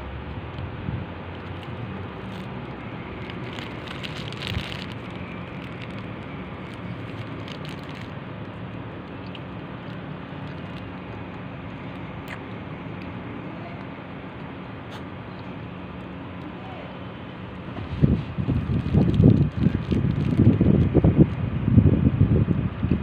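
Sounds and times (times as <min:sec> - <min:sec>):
outdoor background hiss: 0:00.0 - 0:22.9.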